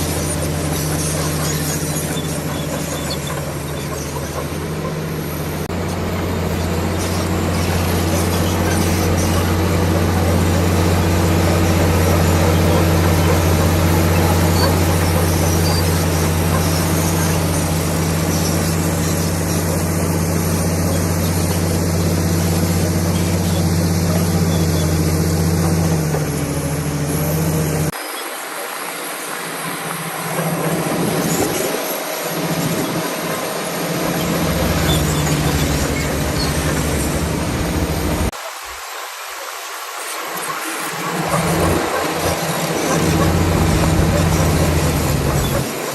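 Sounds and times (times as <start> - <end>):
bulldozer diesel engine droning: 0.0 - 38.4, 40.5 - 45.9.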